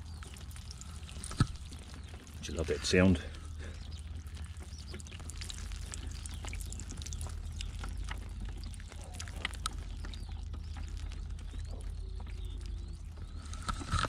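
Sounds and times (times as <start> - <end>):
fish wriggling in net ticking: 0.0 - 14.0.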